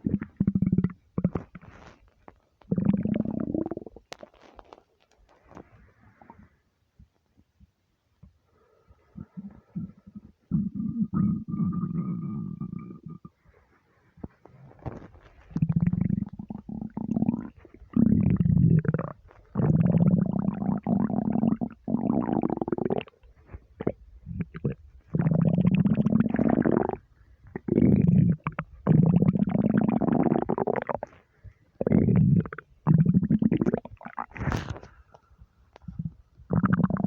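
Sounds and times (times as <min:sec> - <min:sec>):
faint stomach gurgles: 0:00.0 - 0:04.7, 0:09.0 - 0:13.4, 0:14.2 - 0:37.0.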